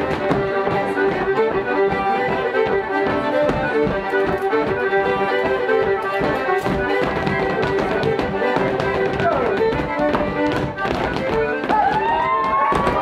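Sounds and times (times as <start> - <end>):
dancers' feet tapping: 0.0 - 13.0
fiddle dance tune: 0.0 - 13.0.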